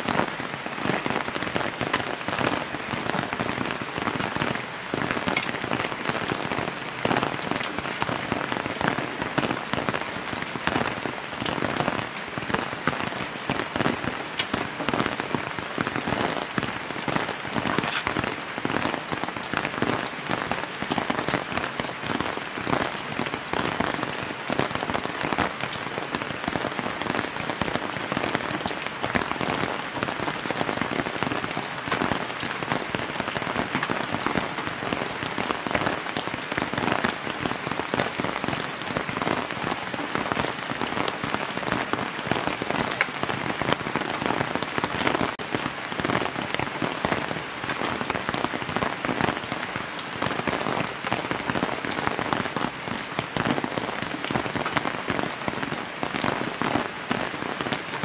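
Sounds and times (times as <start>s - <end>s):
heavy rain: 0.0s - 58.0s
raindrops pattering on plastic tarp: 0.0s - 58.0s.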